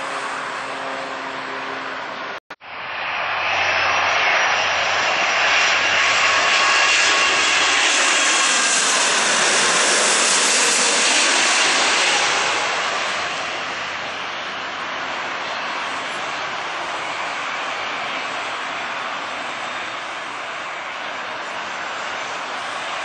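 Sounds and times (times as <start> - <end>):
jet plane passing overhead: 0.0 - 23.0.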